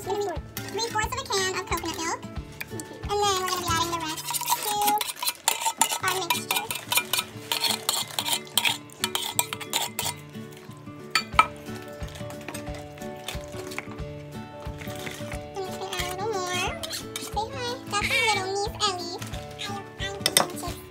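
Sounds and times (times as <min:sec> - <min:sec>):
whisk clicking and scraping bowl: 0:00.1 - 0:20.9.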